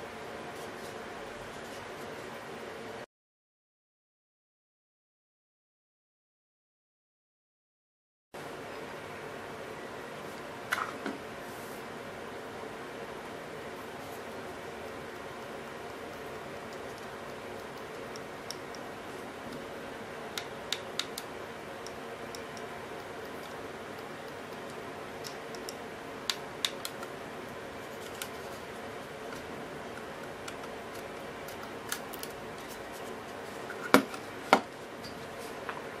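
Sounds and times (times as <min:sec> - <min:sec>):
steady background hum: 0:00.0 - 0:03.1, 0:08.4 - 0:36.0.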